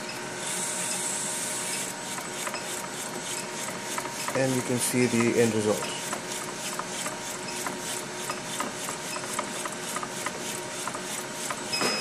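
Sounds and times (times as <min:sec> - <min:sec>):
label printer mechanical whir: 0:00.0 - 0:12.0.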